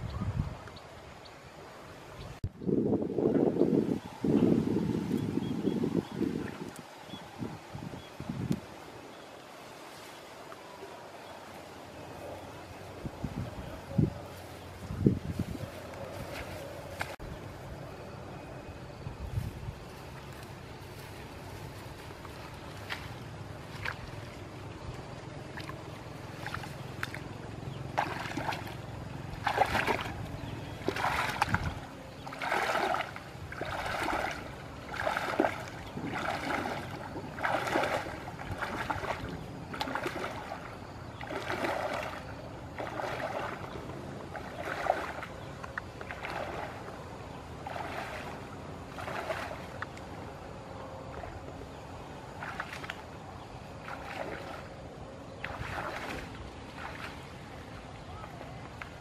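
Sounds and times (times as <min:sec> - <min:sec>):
wading through shallow water: 0:03.4 - 0:59.0.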